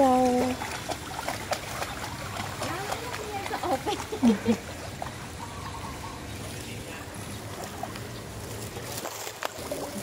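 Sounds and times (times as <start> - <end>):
water trickling and sloshing: 0.0 - 10.0.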